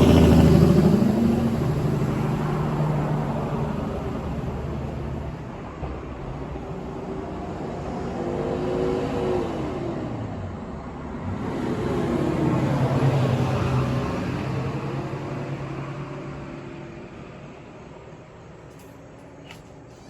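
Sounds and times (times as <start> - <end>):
vehicles passing on road: 0.0 - 20.0.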